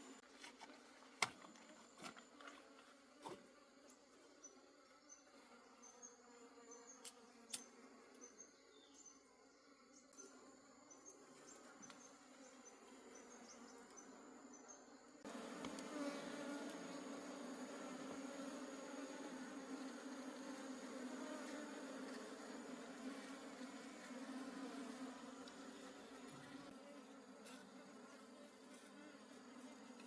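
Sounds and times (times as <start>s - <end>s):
honey bees buzzing: 3.0s - 30.0s.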